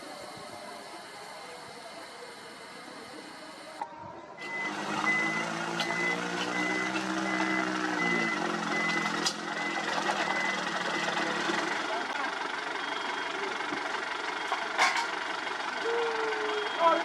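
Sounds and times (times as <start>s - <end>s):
reversing alarm beeping: 0.0s - 3.8s, 4.4s - 14.7s, 16.2s - 17.0s
diesel machinery running: 0.0s - 17.0s.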